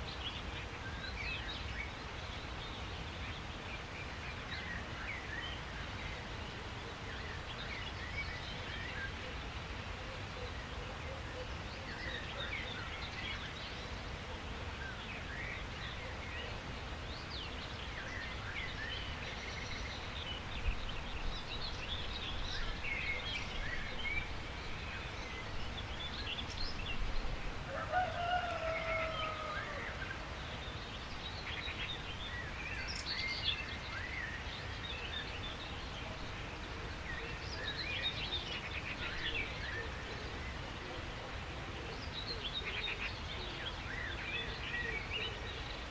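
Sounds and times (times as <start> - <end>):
low background noise: 0.0 - 45.9
wild birds chirping: 0.0 - 45.9.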